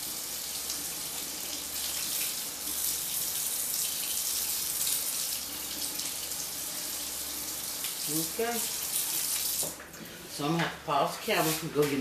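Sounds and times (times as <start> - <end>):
faucet running water: 0.0 - 11.9.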